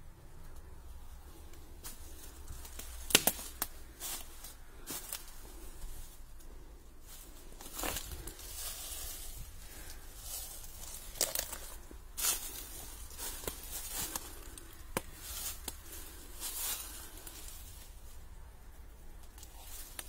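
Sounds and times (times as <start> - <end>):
steady low rumble: 0.0 - 20.0
crunches and rustles: 1.3 - 18.2.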